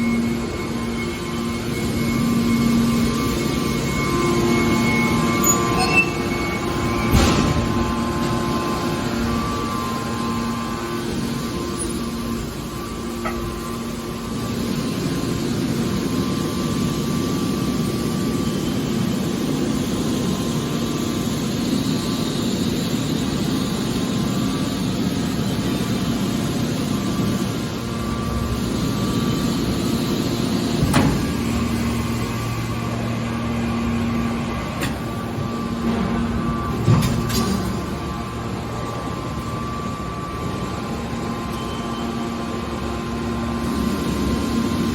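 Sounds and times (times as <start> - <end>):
hydraulic power unit humming: 0.0 - 44.9.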